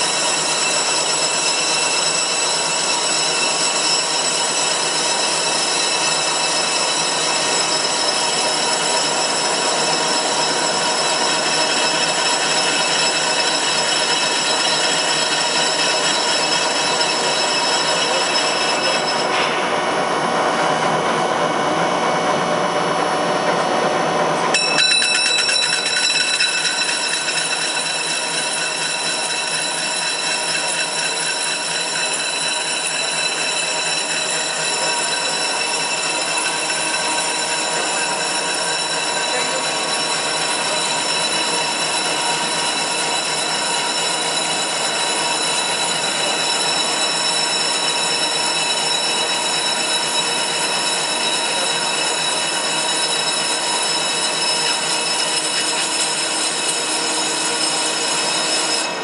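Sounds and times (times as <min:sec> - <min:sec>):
lathe mechanical whine: 0:00.0 - 0:59.0
rough machine noise: 0:00.0 - 0:59.0.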